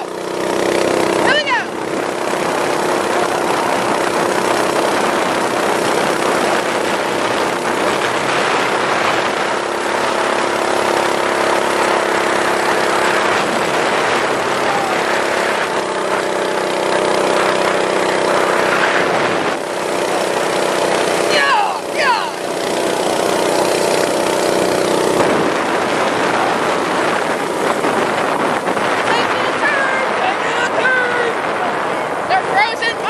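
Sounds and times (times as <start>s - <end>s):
small engine running: 0.0s - 33.0s
wind and road noise: 0.0s - 33.0s.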